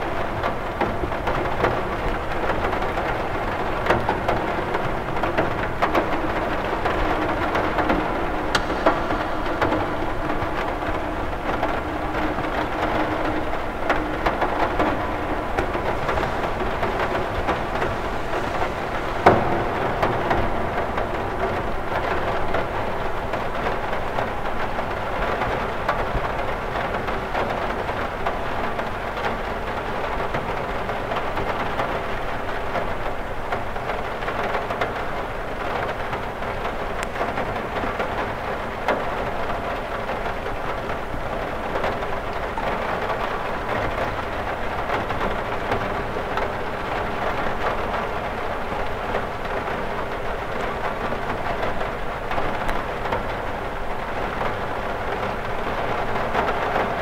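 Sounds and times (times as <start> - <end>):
rain on a window: 0.0 - 57.0
raindrop taps: 0.1 - 57.0.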